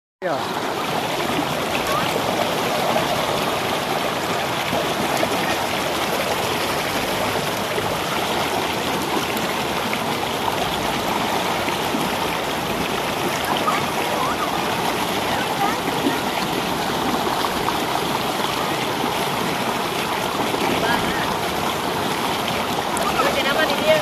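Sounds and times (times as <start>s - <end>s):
river water rushing over stones: 0.2s - 24.0s.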